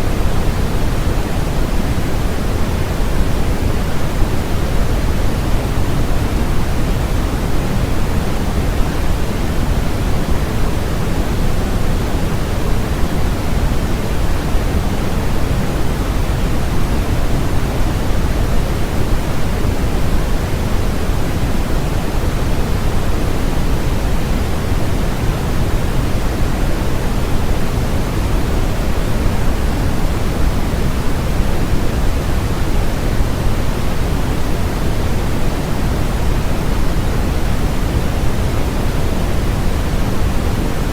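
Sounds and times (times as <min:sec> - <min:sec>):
steady pink noise: 0:00.0 - 0:40.9.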